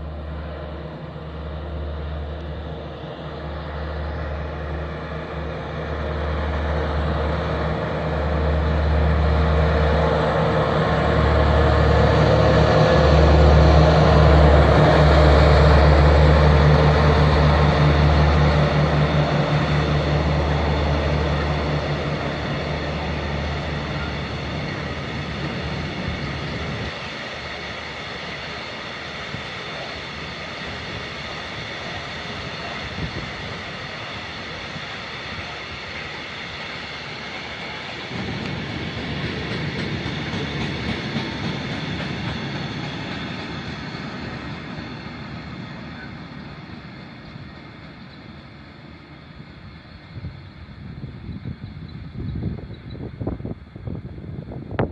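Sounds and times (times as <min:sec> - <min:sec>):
train cars rolling: 0:00.0 - 0:54.9
train engine drone: 0:00.0 - 0:54.9.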